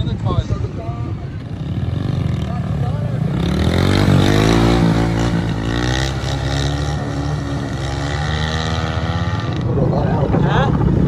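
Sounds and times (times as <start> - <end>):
motorcycle engine revving: 1.2 - 11.0.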